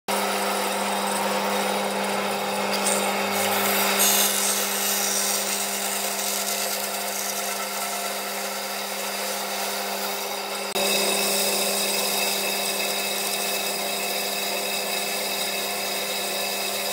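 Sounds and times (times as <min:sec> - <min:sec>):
bandsaw motor hum: 0:00.1 - 0:16.9
saw blade rasping through wood: 0:00.1 - 0:16.9.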